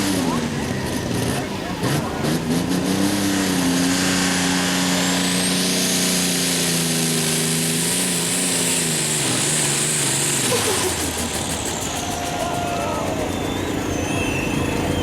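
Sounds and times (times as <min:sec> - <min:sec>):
pulling tractor engine under load: 0:00.4 - 0:15.0.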